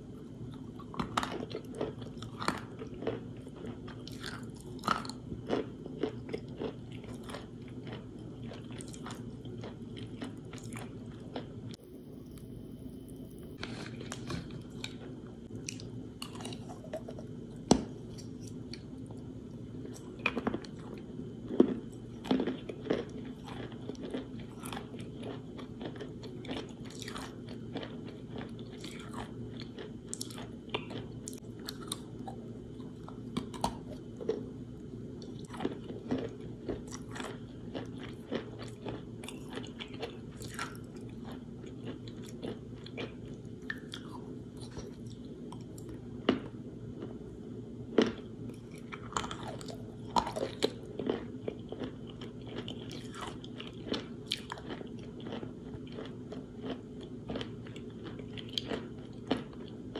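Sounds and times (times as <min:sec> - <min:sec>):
steady low hum: 0:00.0 - 0:59.9
chewing and crunching chalk: 0:00.5 - 0:47.3, 0:48.0 - 0:59.9.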